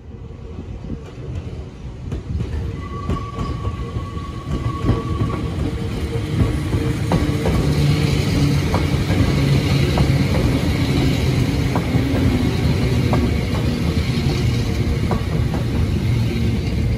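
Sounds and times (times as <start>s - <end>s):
electric train rumbling past: 0.0s - 16.9s
wheels clacking over rail joints: 1.3s - 16.9s.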